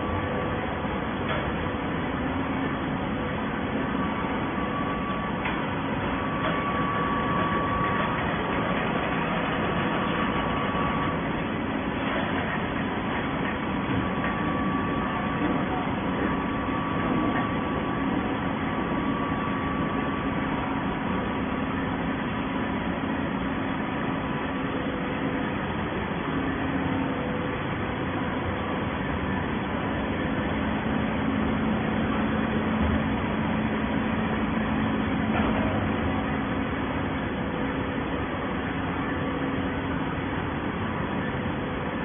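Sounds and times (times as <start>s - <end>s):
baling line machinery drone: 0.0s - 42.0s.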